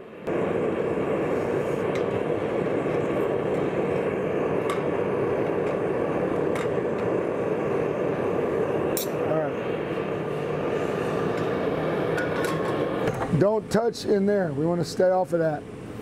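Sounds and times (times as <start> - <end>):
gas forge burner roar: 0.0 - 16.0.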